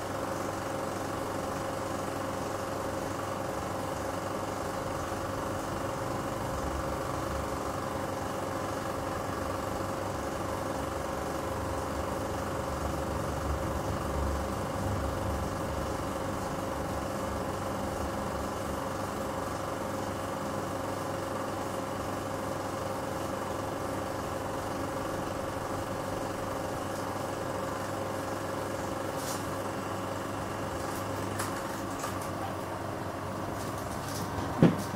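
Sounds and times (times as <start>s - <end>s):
film projector whirring: 0.0s - 34.9s.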